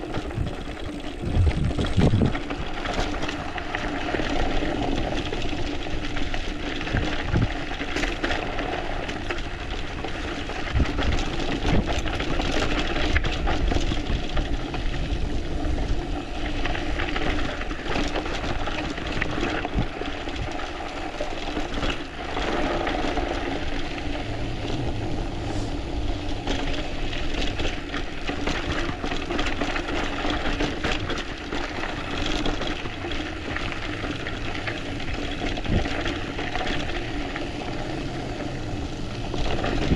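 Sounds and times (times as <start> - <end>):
bike rattling over stones: 0.0 - 39.9
tyre and wind noise: 0.0 - 39.9.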